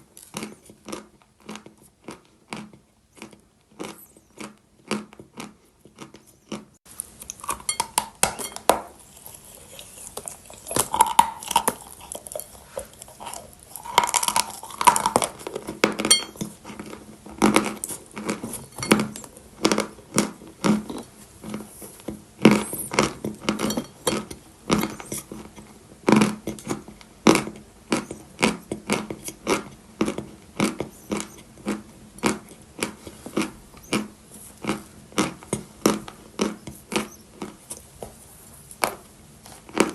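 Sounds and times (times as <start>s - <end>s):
chewing chalk crunches: 0.2s - 38.1s.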